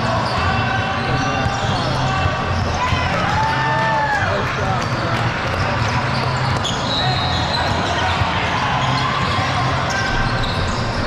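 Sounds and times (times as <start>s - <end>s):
players and spectators talking: 0.0s - 11.0s.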